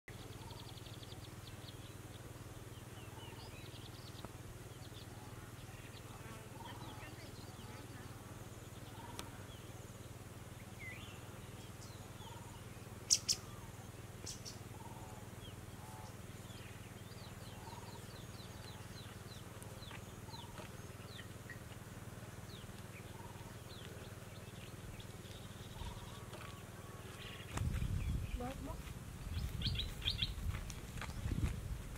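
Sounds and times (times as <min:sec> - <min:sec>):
birds chirping and calling: 0:00.1 - 0:31.5
steady low hum: 0:00.1 - 0:31.9.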